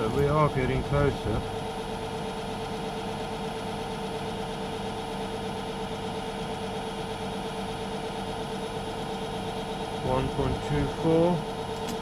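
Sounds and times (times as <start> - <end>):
metalworking lathe humming: 0.0 - 12.0.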